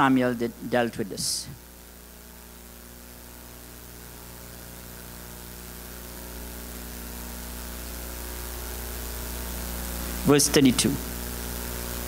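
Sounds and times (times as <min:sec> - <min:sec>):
electrical mains hum: 0:00.0 - 0:12.0
microphone hiss: 0:00.0 - 0:12.0.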